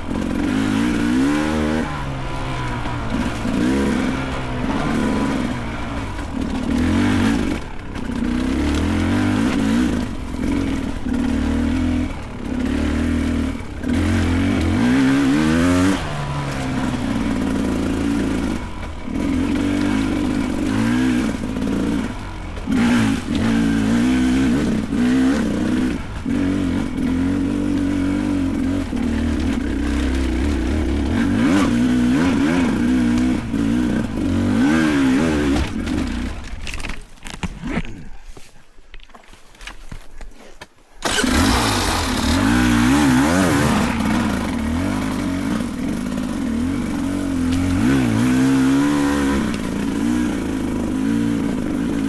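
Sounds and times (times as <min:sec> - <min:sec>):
dirt bike engine revving: 0:00.0 - 0:38.2, 0:41.0 - 0:52.0.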